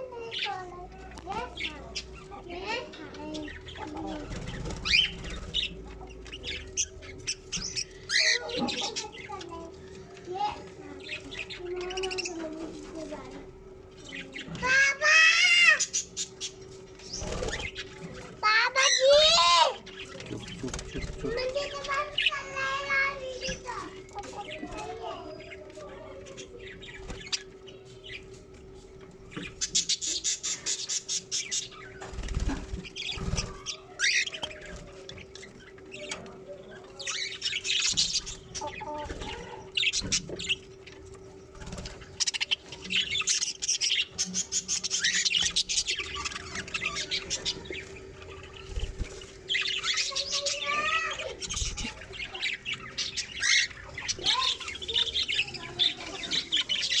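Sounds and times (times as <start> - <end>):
budgerigars chirping and chattering: 0.0 - 57.0
steady low hum: 0.0 - 57.0.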